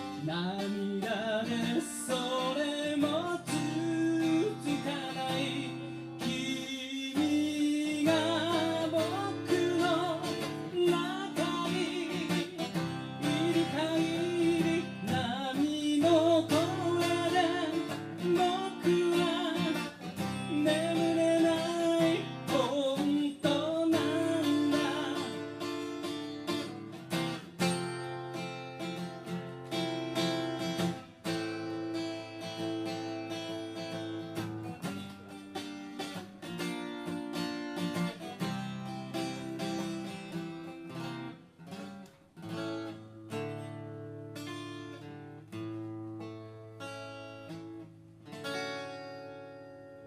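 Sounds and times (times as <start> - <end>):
acoustic guitar strumming and plucking: 0.0 - 50.0.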